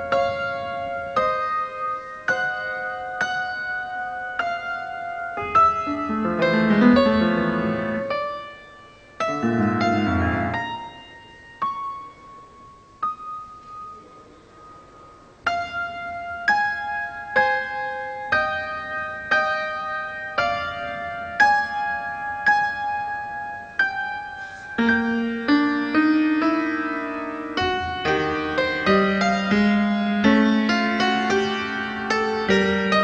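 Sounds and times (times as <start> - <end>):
solo piano music: 0.0 - 33.0.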